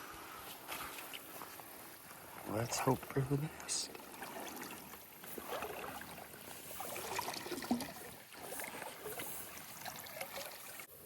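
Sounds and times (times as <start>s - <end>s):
water splashing and sloshing: 0.0s - 10.9s
footsteps wading through water: 0.1s - 10.9s.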